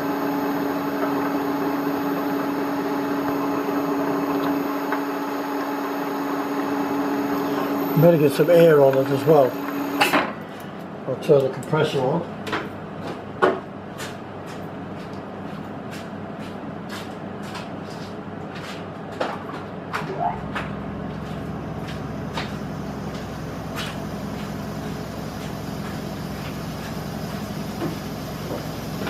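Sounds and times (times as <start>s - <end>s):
air compressor rumbling: 0.0s - 29.0s
workshop machinery hum: 0.0s - 29.0s.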